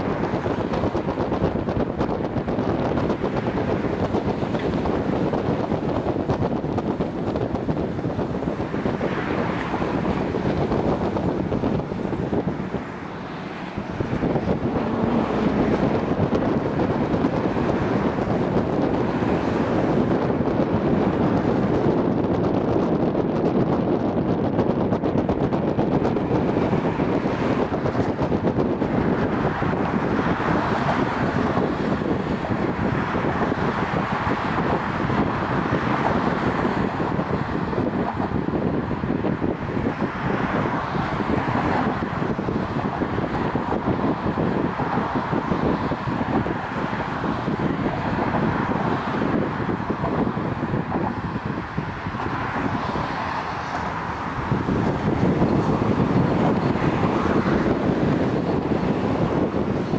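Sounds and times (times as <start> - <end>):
cars driving past: 0.0 - 59.9
road traffic: 0.0 - 59.9
subway train on bridge: 0.0 - 59.9
wind rumbling on microphone: 0.0 - 59.9.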